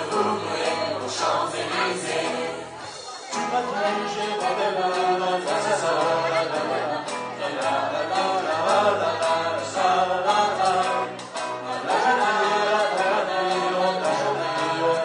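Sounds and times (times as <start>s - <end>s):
backing track with steady beat: 0.0s - 15.0s
vocal trio singing in harmony: 0.0s - 15.0s.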